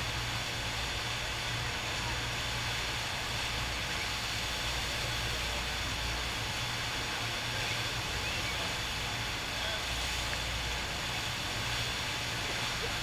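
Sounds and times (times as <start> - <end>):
low steady hum: 0.0 - 13.0
water rushing: 0.0 - 13.0.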